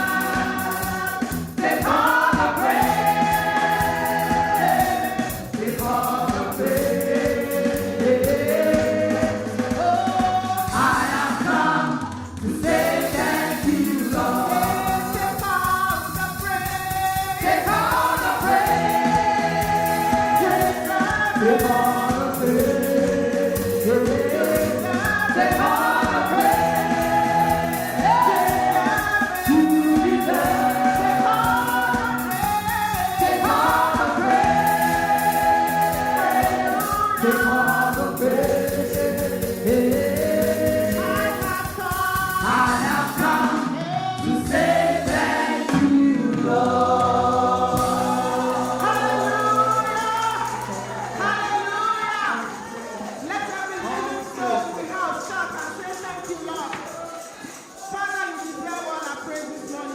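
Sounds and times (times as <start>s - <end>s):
instrumental accompaniment with bass: 0.0s - 51.9s
gospel choir singing: 0.0s - 59.9s.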